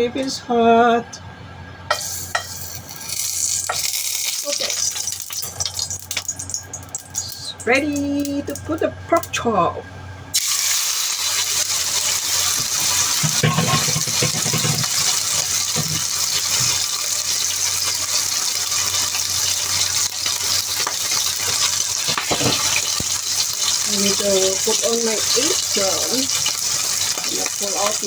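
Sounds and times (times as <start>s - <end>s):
pork chop sizzling in oil: 1.9s - 7.3s, 10.3s - 28.0s.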